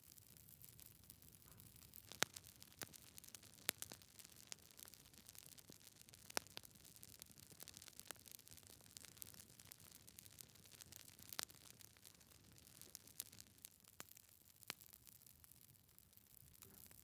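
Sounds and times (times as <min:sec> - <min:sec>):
wood fire crackling and popping: 0:00.1 - 0:17.0.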